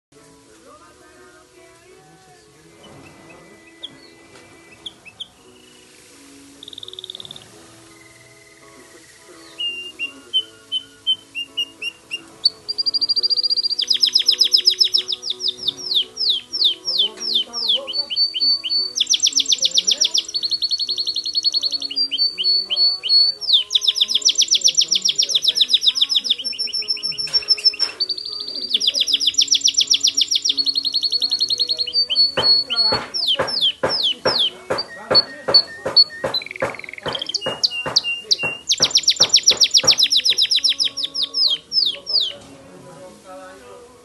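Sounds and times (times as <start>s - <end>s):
canary singing trills and whistles: 2.2s - 42.5s.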